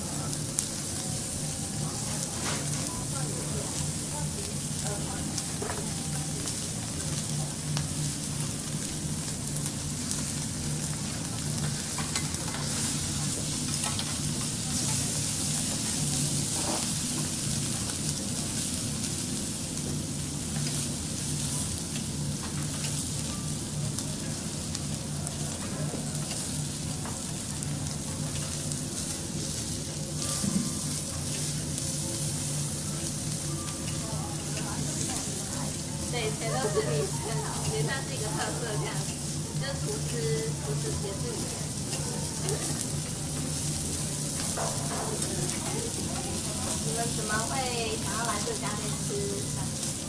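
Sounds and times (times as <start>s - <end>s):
food sizzling on a griddle: 0.0s - 50.0s.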